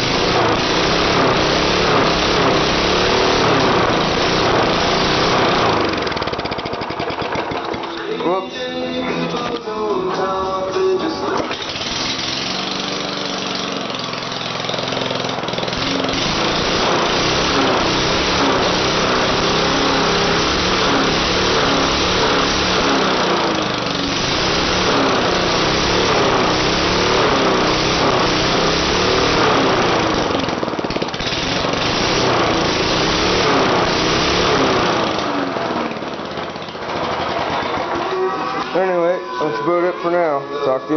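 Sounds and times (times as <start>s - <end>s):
lawnmower engine wavering: 0.0s - 40.9s.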